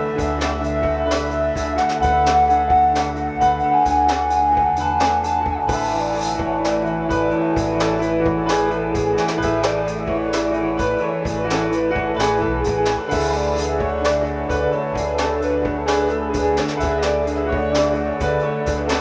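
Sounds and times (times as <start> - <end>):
instrumental band music: 0.0 - 19.0.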